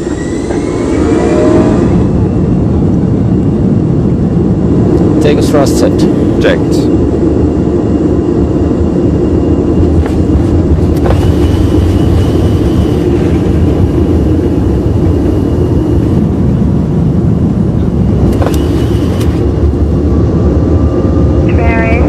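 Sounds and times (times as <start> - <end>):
airliner engines rumbling: 0.0 - 22.0.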